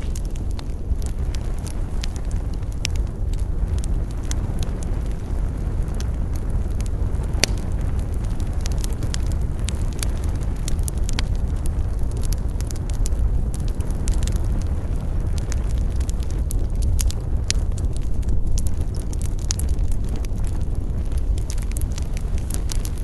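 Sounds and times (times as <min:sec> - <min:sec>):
burning wood crackling and popping: 0:00.0 - 0:23.0
campfire flame roar: 0:00.0 - 0:23.0.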